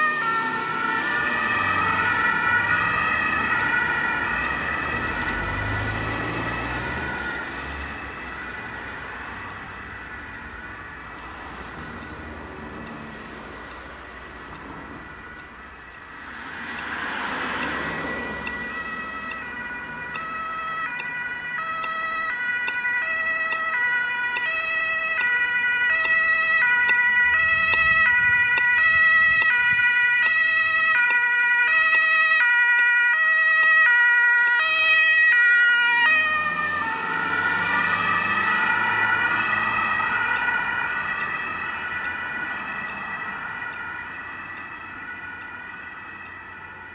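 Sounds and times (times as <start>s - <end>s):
passing vehicle rush: 0.0s - 46.9s
two-tone emergency siren: 0.0s - 46.9s.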